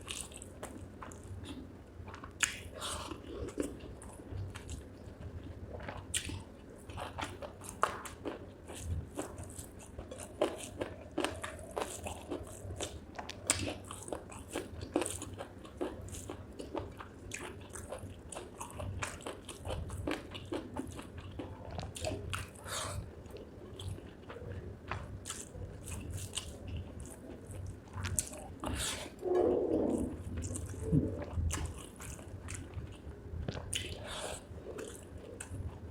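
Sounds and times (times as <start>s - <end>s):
close-miked chewing: 0.0s - 35.9s.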